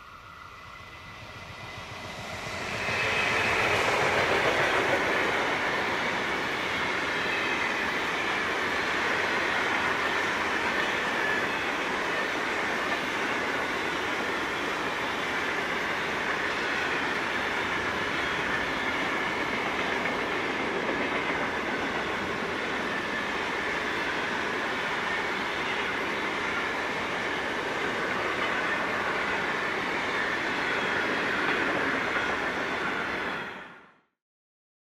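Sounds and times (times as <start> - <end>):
freight train wheels on rails: 0.0 - 33.9.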